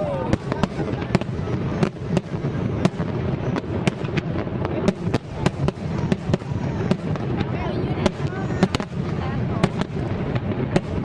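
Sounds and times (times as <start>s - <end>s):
fireworks bangs: 0.0s - 11.0s
fireworks rumble and crackle: 0.0s - 11.0s.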